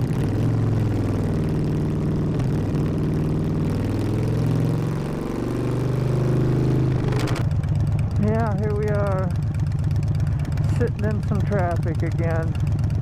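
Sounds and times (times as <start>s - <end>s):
motorcycle engine loud exhaust: 0.0s - 13.0s.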